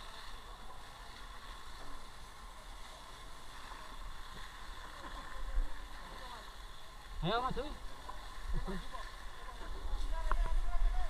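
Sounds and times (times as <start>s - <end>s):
fire hose spraying water: 0.0s - 11.0s.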